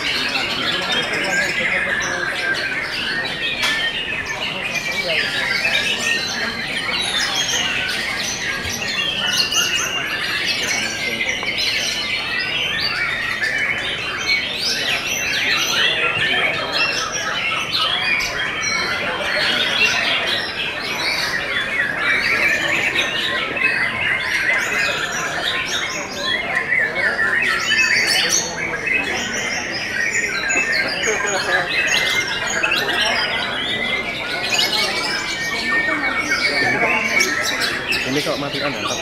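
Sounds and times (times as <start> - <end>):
chorus of songbirds singing: 0.0 - 39.0.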